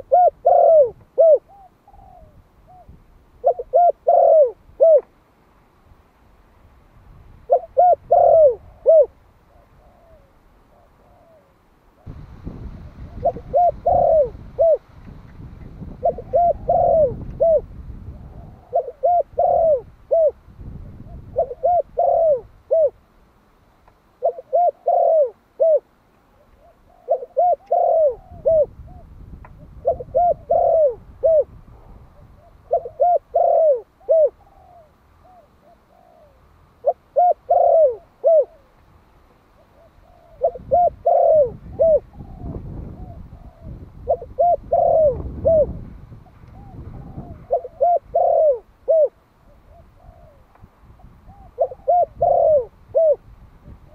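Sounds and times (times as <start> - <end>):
dove cooing: 0.0 - 5.1, 7.4 - 14.9, 15.7 - 23.0, 24.2 - 38.8, 39.5 - 53.9.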